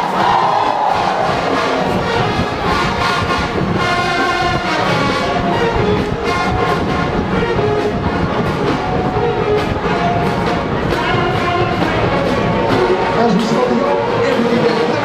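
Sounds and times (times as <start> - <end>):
marching drums beat: 0.0 - 14.7
brass horns holding chords: 0.0 - 15.0.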